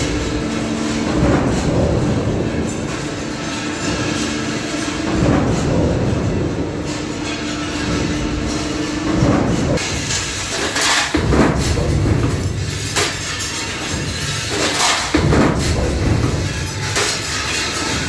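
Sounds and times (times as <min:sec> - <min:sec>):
low machine rumble: 0:00.0 - 0:18.0.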